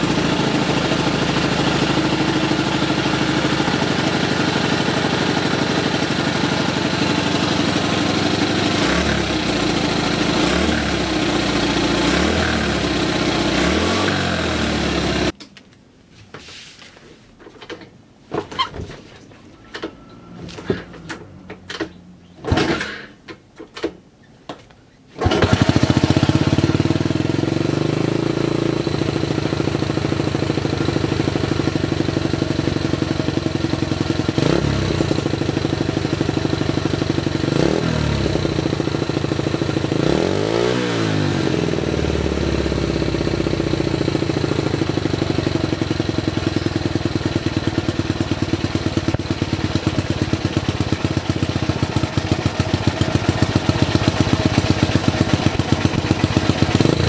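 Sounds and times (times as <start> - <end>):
motorcycle engine idling and revving: 0.0 - 15.4, 19.6 - 22.5, 25.2 - 57.0.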